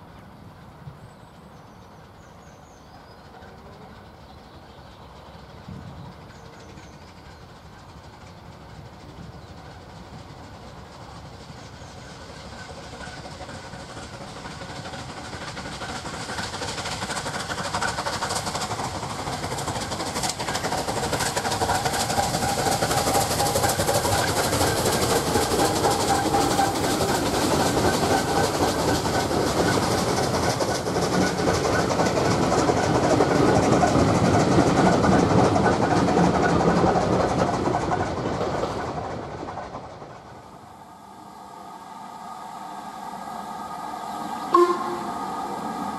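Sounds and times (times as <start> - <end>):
steam train passing: 0.0 - 45.9.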